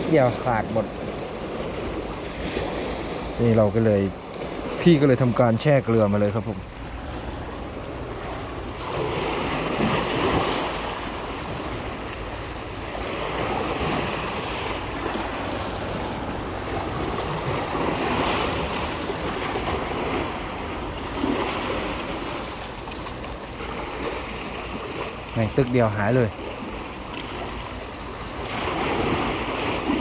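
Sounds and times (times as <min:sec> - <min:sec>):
sea waves washing ashore: 0:00.0 - 0:30.0
wind rumbling on microphone: 0:00.0 - 0:30.0.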